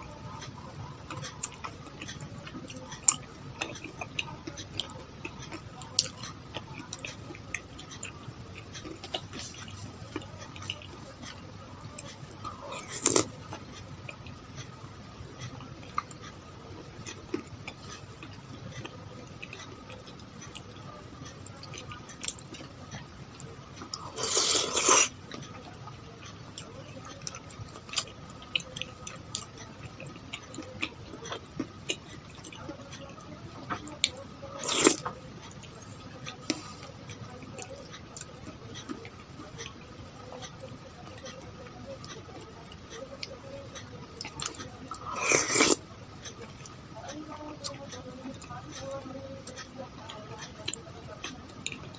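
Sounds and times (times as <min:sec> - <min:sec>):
wet chewing with mouth clicks: 0:00.0 - 0:51.9.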